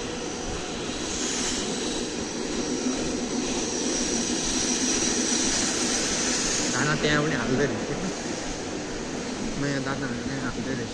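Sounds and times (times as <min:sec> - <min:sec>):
machinery drone: 0:00.0 - 0:10.9
thin high whine: 0:00.0 - 0:10.9.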